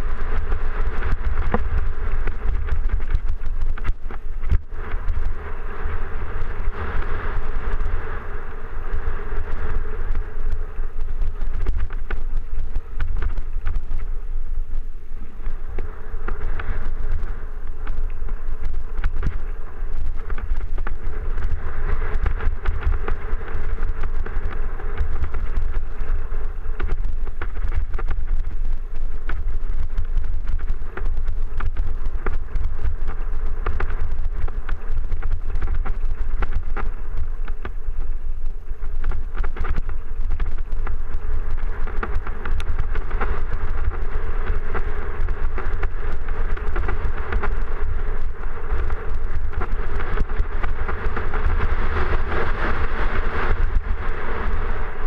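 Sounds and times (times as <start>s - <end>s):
bike rattling: 0.0s - 55.0s
wind on microphone: 0.0s - 55.0s.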